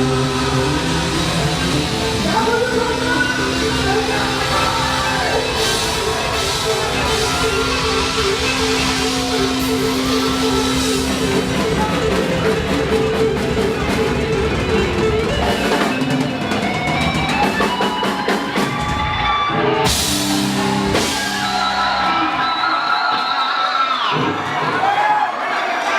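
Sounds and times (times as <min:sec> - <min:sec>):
overdriven electric guitar: 0:00.0 - 0:22.6
bass: 0:00.0 - 0:23.0
drum kit: 0:00.0 - 0:23.1.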